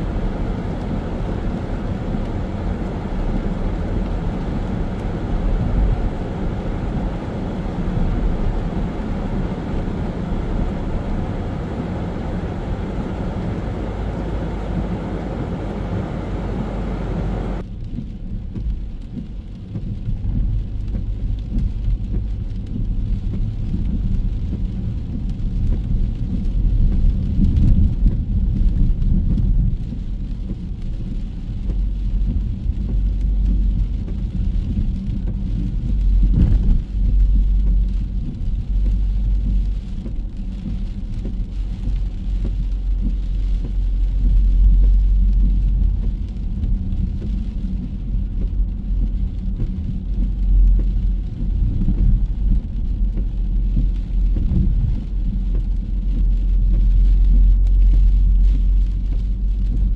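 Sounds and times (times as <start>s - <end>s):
heavy low rumble: 0.0s - 59.9s
rain hiss: 0.0s - 59.9s
traffic: 0.0s - 59.9s.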